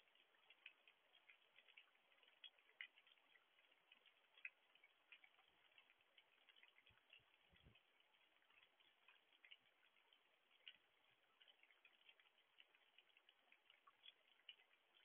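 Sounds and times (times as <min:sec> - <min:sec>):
light rain ticking: 0:00.0 - 0:15.0.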